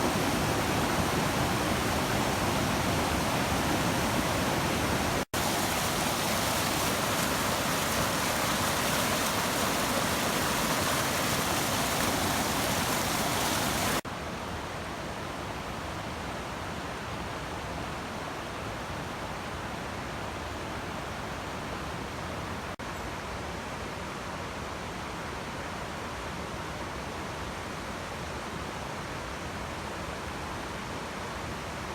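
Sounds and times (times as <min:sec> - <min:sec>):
rushing white water: 0:00.0 - 0:31.9.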